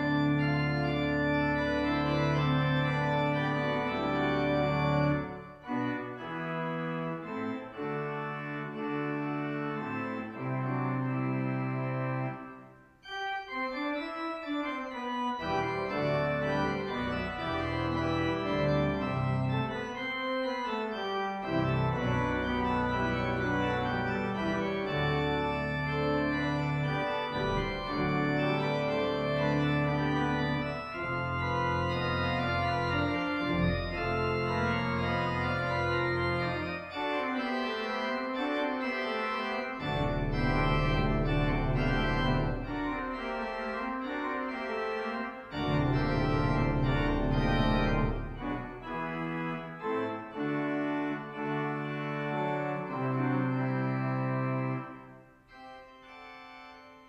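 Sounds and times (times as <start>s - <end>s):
church organ playing: 0.0s - 57.0s.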